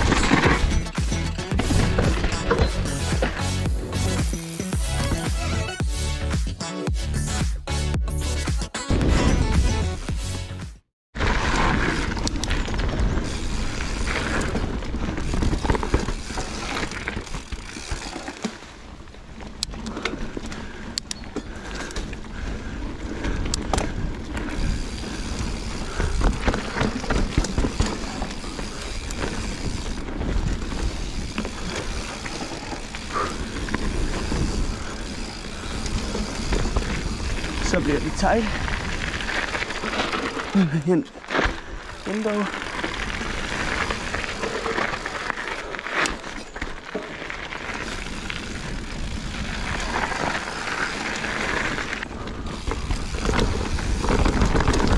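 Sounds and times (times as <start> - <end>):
bike tyres rumbling on dirt: 0.0 - 5.3, 11.1 - 54.9
bike rattling: 0.0 - 5.7, 11.2 - 54.9.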